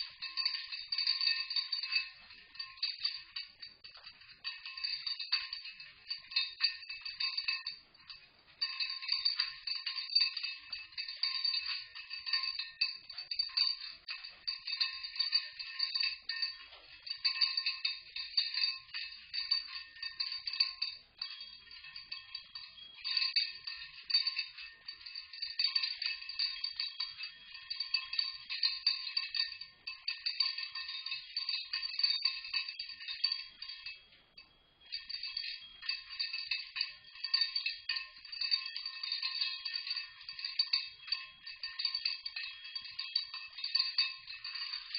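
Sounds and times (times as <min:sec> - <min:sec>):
cage toy bells jangling: 0:00.0 - 0:44.9.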